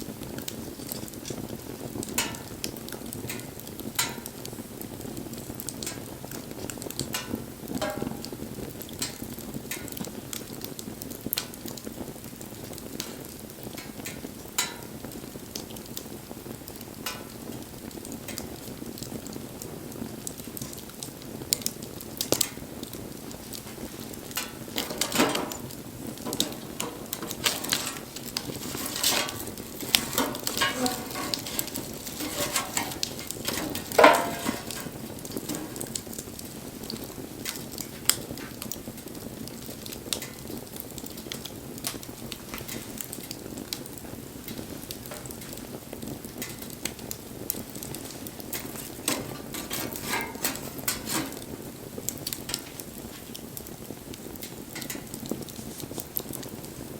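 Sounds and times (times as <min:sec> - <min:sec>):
bonfire crackling and popping: 0:00.0 - 0:56.9
soft fire hiss: 0:00.0 - 0:56.9.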